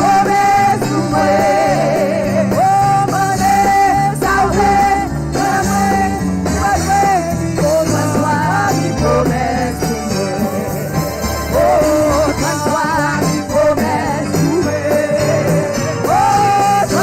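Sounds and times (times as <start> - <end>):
church band playing worship music: 0.0 - 17.0.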